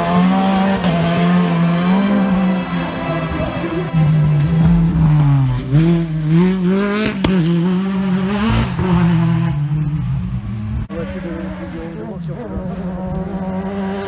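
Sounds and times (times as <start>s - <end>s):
rally car engine pulling hard: 0.0s - 14.0s.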